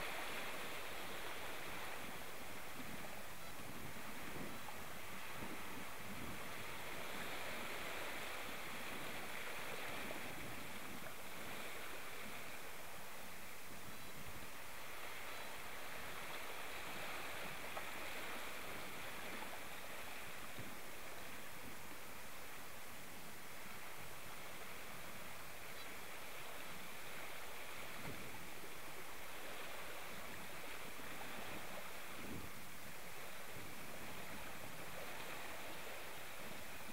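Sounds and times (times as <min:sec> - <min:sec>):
water rushing in boat wake: 0:00.0 - 0:36.9.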